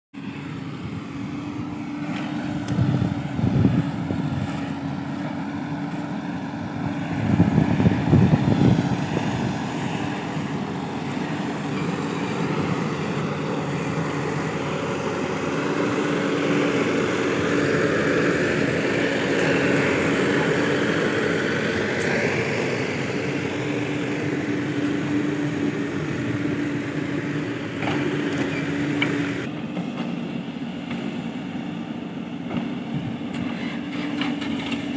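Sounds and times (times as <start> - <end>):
diesel engines running: 0.2 - 34.9
rough engine surges: 0.2 - 34.9.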